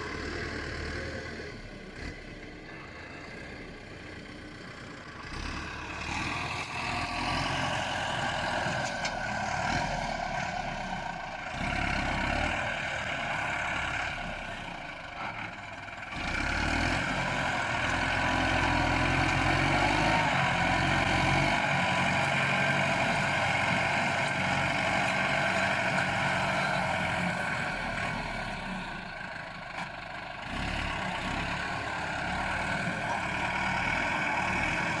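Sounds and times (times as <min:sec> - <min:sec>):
bulldozer diesel engine: 0:00.0 - 0:35.0.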